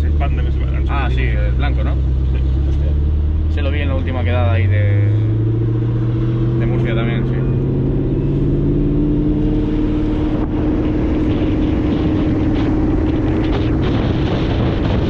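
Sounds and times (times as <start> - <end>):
car engine droning at cruise: 0.0 - 15.0
road and tyre rumble: 0.0 - 15.0.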